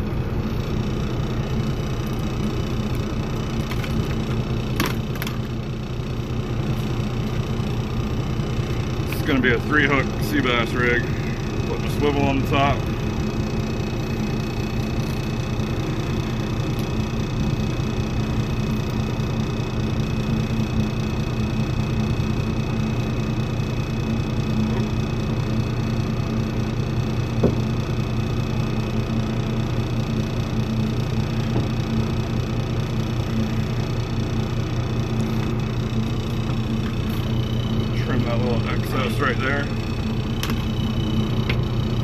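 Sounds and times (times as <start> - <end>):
boat engine idling: 0.0 - 42.0.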